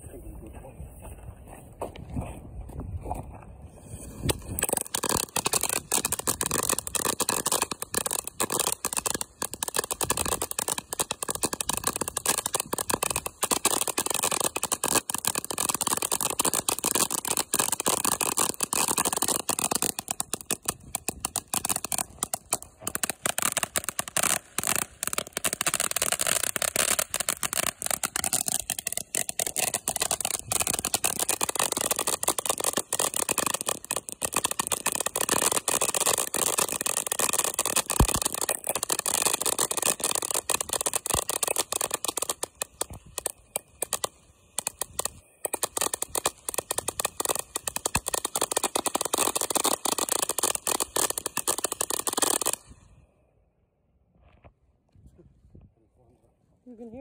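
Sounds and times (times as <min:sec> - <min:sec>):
firework hissing and crackling: 0:03.7 - 0:53.0.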